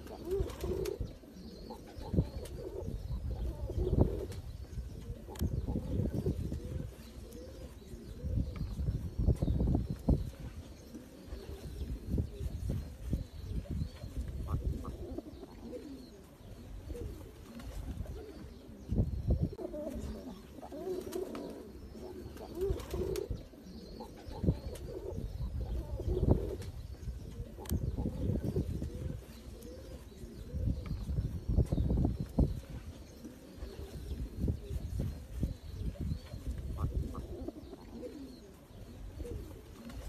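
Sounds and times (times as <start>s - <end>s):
pigeons cooing: 0.0s - 40.0s.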